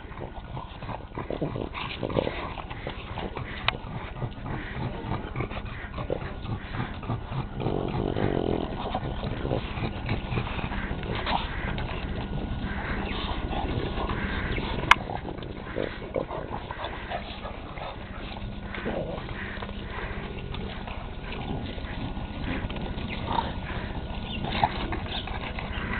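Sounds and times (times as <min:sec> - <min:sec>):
dogs grunting and snuffling: 0:00.0 - 0:25.9.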